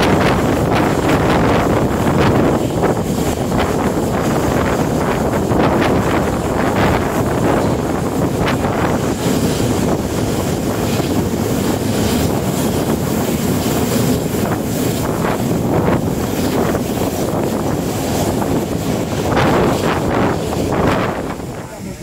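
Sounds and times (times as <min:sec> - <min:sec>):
moving train running: 0:00.0 - 0:22.0
wind buffeting microphone: 0:00.0 - 0:22.0.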